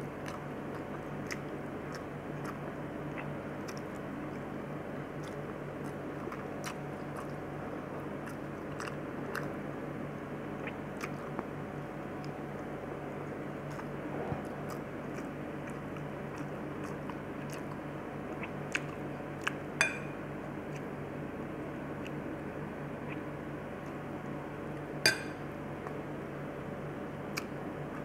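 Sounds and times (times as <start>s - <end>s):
woman chewing food: 0.0s - 26.1s, 27.2s - 28.0s
low steady hum: 0.0s - 28.0s.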